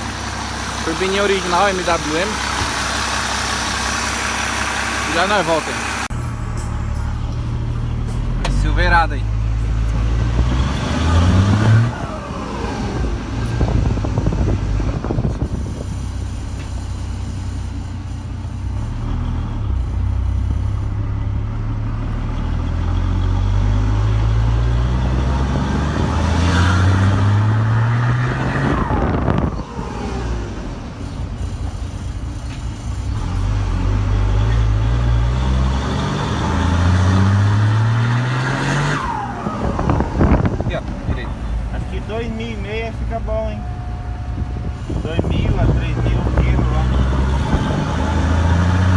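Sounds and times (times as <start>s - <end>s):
diesel engine revving through gears: 0.0s - 48.9s.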